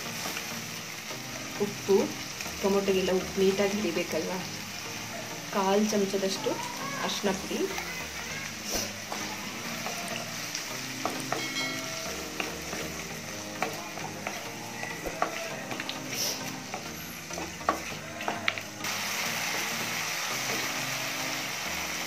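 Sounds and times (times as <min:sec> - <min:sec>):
onions and tomatoes sizzling in oil: 0:00.0 - 0:22.0.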